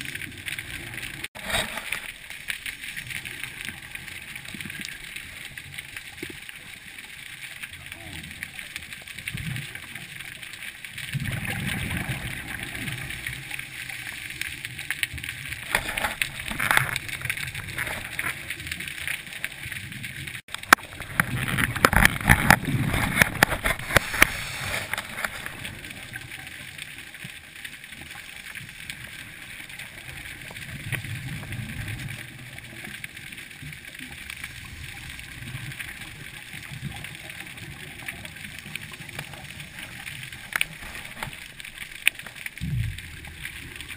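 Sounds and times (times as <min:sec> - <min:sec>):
gurgling exhaled bubbles: 0:07.5 - 0:43.9.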